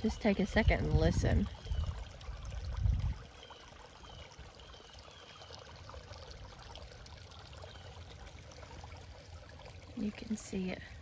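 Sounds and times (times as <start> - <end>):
creek flowing over rocks: 0.0 - 11.0.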